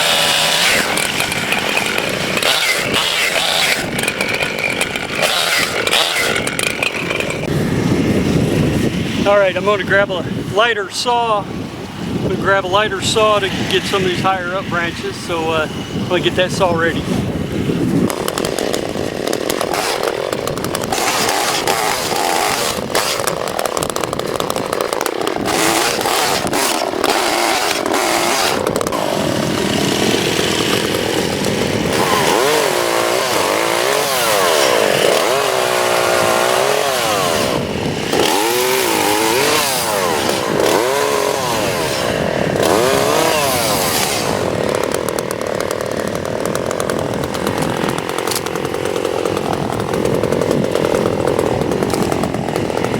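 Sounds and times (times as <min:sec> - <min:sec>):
chainsaw revving: 0:00.0 - 0:11.4, 0:12.2 - 0:52.9.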